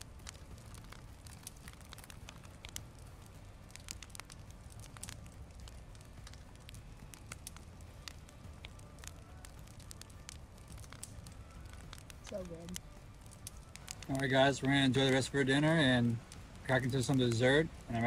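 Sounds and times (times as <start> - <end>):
campfire crackling: 0.0 - 18.0
faint low rumble: 0.0 - 18.0.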